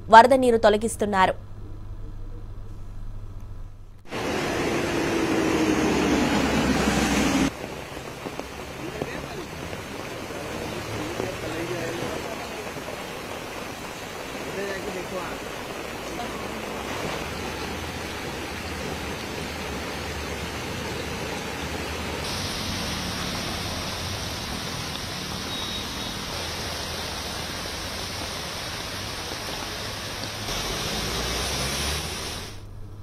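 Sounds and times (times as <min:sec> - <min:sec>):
heavy rain: 0:04.1 - 0:32.6
running floodwater: 0:04.1 - 0:32.6.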